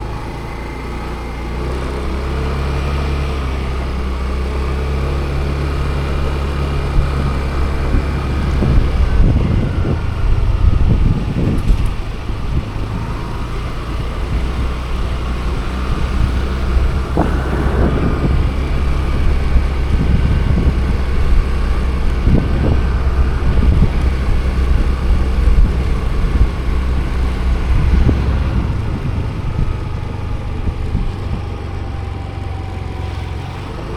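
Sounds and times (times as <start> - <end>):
car engine hum: 0.0 - 33.9
road noise: 0.0 - 33.9.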